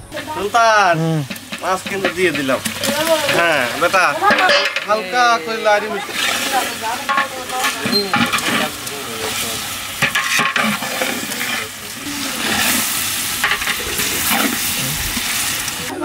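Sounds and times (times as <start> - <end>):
fish sizzling in hot oil: 0.0 - 16.0
stirring strokes in pot: 0.0 - 16.0.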